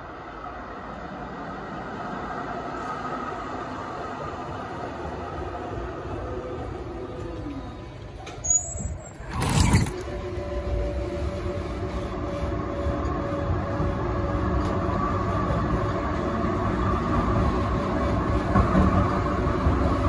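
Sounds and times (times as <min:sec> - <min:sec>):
tram motor hum: 0:00.0 - 0:20.0
tram wheels rumbling on rails: 0:00.0 - 0:20.0.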